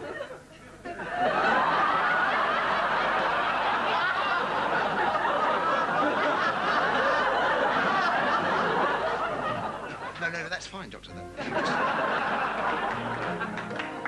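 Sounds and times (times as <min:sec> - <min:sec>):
audience laughing: 0:00.0 - 0:10.5, 0:11.4 - 0:14.0.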